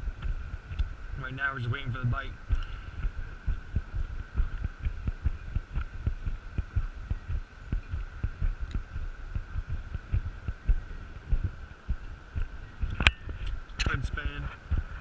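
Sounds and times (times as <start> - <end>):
faint high hum: 0.0 - 15.0
wind buffeting microphone: 0.0 - 15.0.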